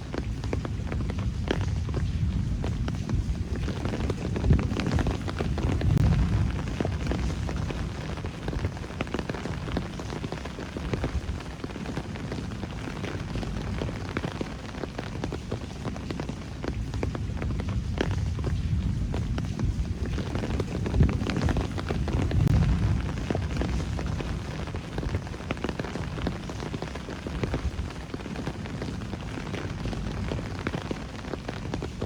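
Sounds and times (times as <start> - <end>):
rain drops on hard surfaces: 0.0 - 32.0.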